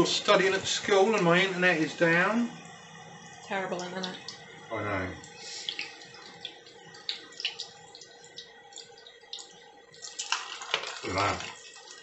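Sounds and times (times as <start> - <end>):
dough frying in oil: 0.0 - 12.0.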